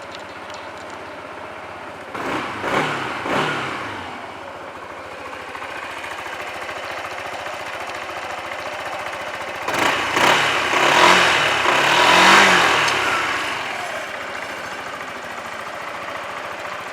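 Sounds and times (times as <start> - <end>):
scooter engine idling and revving: 0.0 - 16.9.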